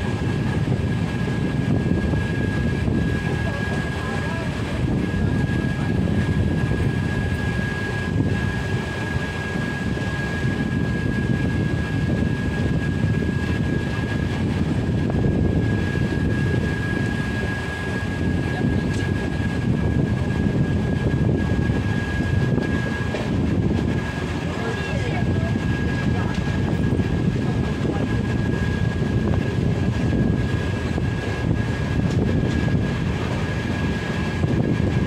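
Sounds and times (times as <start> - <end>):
train running rumble: 0.0 - 35.0.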